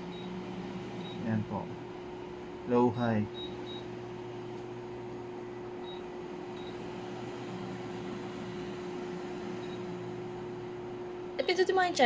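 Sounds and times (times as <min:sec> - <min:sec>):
air purifier fan rushing: 0:00.0 - 0:12.0
electrical hum: 0:00.0 - 0:12.0.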